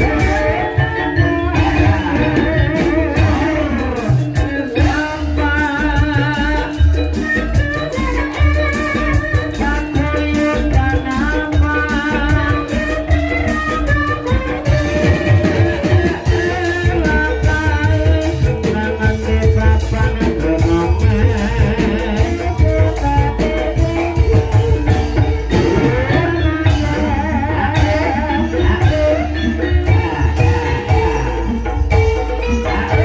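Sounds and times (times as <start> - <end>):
gamelan ensemble playing: 0.0 - 33.0
person singing wavering melody: 0.0 - 33.0
steady drumming: 0.0 - 33.0.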